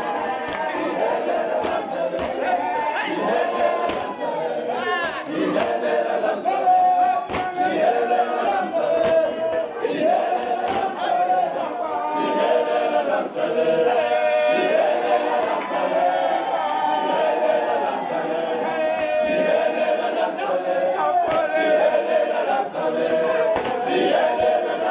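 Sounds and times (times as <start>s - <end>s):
men's choir singing unaccompanied: 0.0s - 24.9s.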